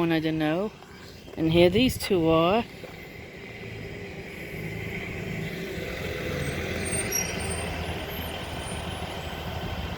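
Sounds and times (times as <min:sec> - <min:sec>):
bus engine running: 0:00.0 - 0:09.9.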